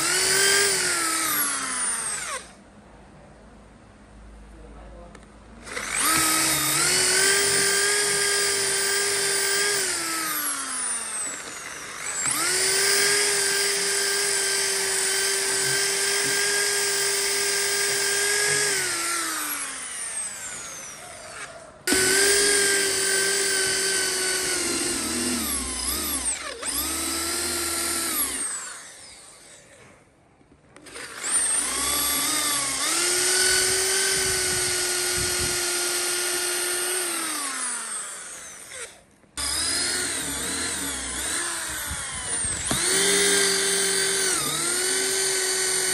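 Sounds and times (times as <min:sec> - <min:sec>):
power tool motor whining: 0:00.0 - 0:02.6, 0:05.6 - 0:29.9, 0:30.8 - 0:45.9.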